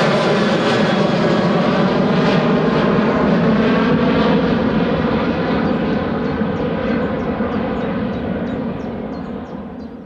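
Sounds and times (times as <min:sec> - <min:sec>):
jet engine roar: 0:00.0 - 0:10.0.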